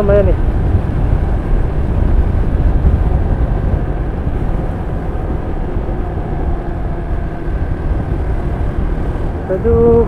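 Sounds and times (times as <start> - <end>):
motorcycle engine and road rumble: 0.0 - 10.0.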